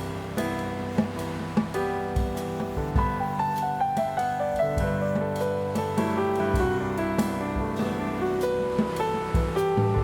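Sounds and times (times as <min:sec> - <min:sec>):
instrumental music with low beat: 0:00.0 - 0:10.0.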